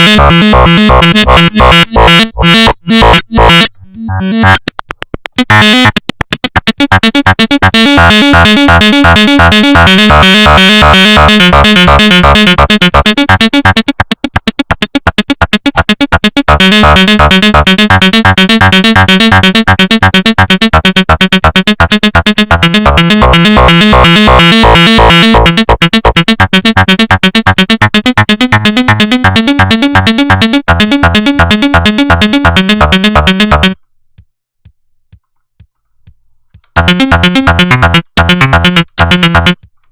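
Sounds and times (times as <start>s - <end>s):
synthesizer arpeggio: 0.0s - 33.8s, 36.8s - 39.6s.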